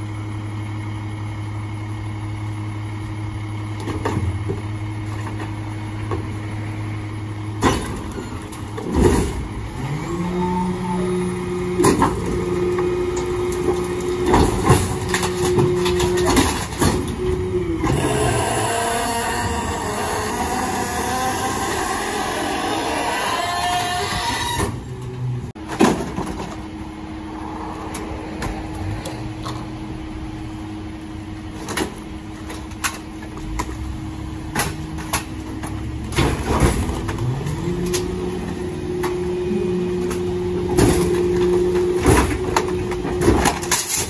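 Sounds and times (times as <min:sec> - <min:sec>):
garbage truck engine running: 0:00.0 - 0:44.0.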